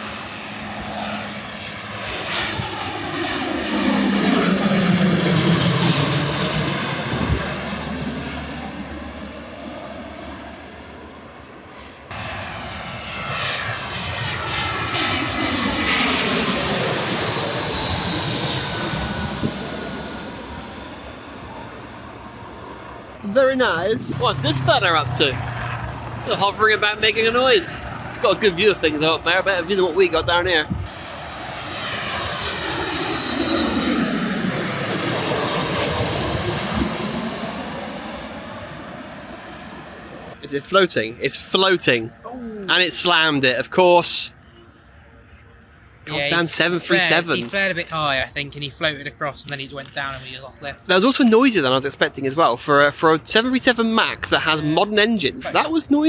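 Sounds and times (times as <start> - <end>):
airliner flying overhead: 0.0 - 56.0.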